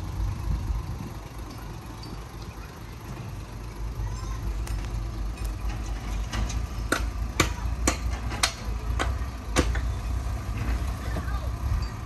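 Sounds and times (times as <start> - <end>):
heavy diesel machinery rumbling: 0.0 - 12.0.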